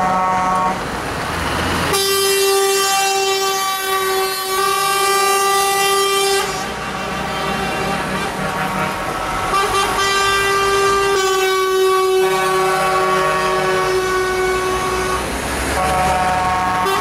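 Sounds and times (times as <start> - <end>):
truck air horns blasting: 0.0 - 0.9, 1.8 - 17.0.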